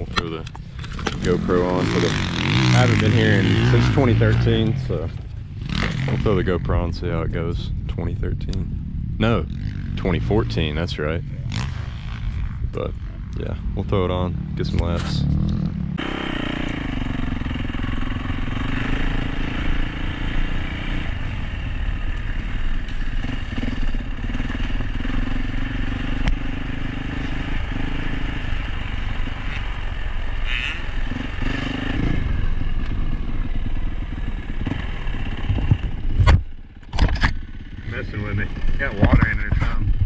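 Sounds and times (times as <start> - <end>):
dirt bike engine running: 0.0 - 40.0.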